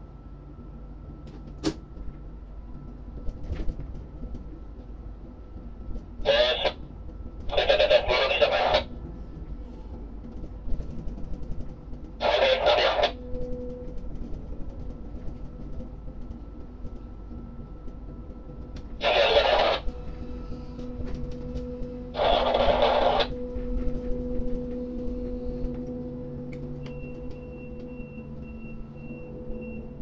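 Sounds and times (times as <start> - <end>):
crane machinery hum: 0.0 - 30.0.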